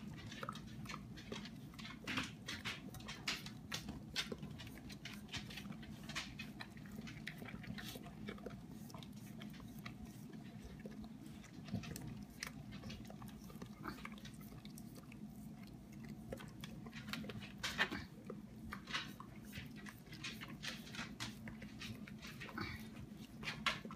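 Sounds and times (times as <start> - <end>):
dog licking a pan: 0.0 - 23.9.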